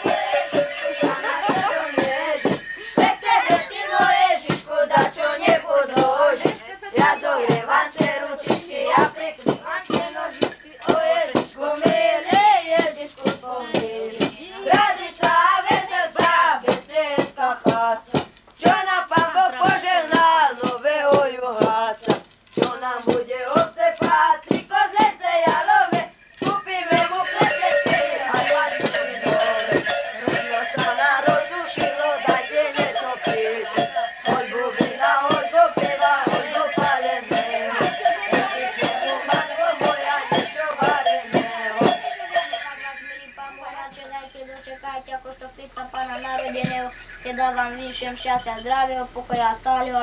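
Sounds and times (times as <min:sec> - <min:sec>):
group chanting a carol: 0:00.0 - 0:21.8, 0:22.6 - 0:49.0
boys singing in unison: 0:00.0 - 0:50.0.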